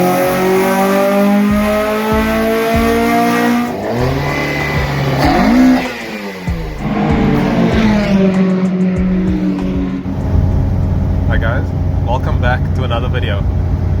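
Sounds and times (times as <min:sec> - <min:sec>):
car engines revving high: 0:00.0 - 0:14.0.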